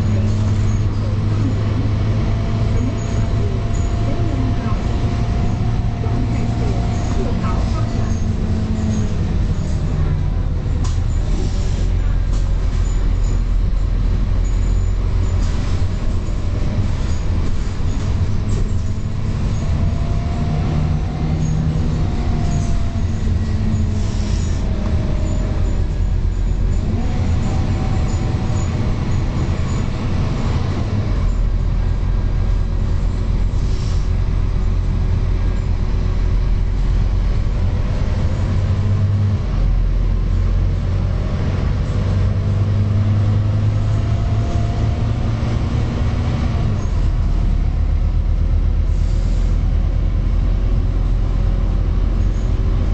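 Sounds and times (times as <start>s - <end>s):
bus diesel engine drone: 0.0s - 52.9s
bus engine whine: 0.0s - 52.9s.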